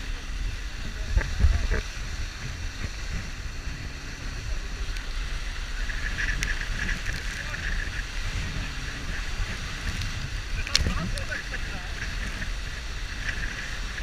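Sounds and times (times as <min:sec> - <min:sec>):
water rushing and spraying: 0:00.0 - 0:14.0
wind buffeting microphone: 0:00.0 - 0:14.0.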